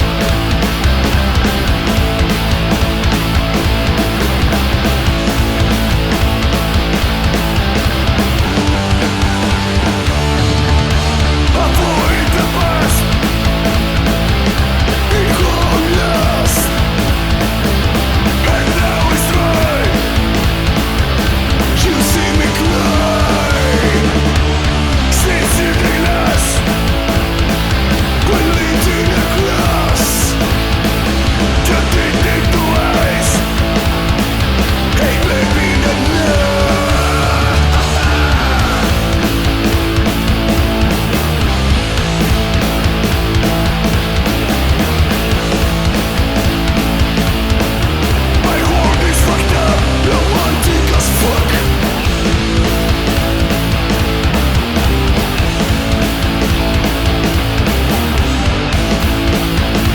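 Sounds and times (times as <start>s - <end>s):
distorted electric guitar: 0.0s - 59.9s
punk rock band music: 0.0s - 59.9s.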